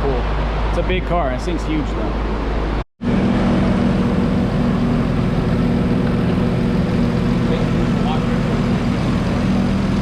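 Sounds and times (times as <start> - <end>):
car engine idling: 1.4 - 10.0.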